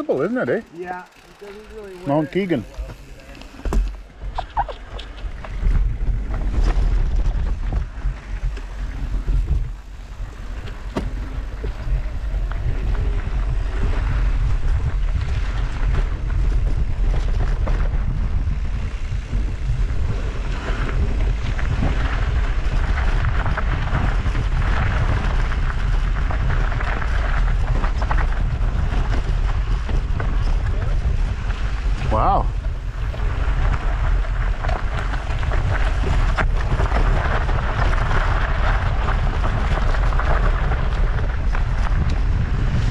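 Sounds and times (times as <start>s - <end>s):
bike rattle on rough trail: 0.0s - 42.9s
wind buffeting microphone: 0.0s - 42.9s.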